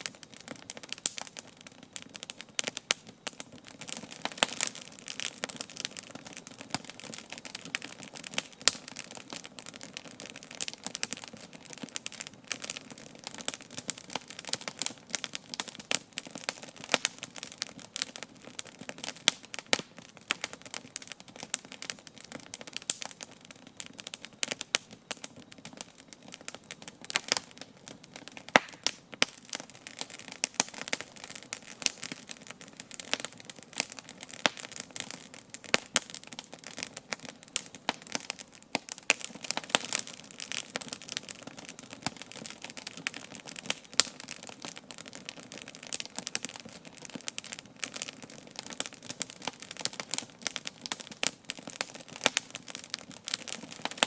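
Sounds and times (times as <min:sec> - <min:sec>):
campfire popping and snapping: 0:00.0 - 0:54.0
faint hiss of flames: 0:00.0 - 0:54.0.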